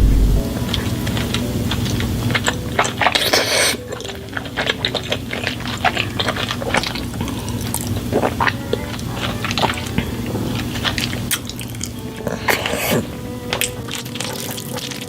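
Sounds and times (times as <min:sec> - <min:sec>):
wet chewing smacks: 0:00.7 - 0:15.0.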